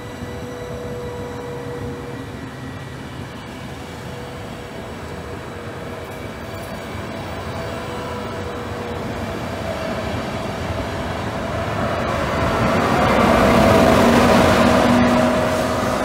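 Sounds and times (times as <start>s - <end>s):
locomotive humming tone: 0.0s - 16.0s
train wheels rolling on rails: 0.0s - 16.0s.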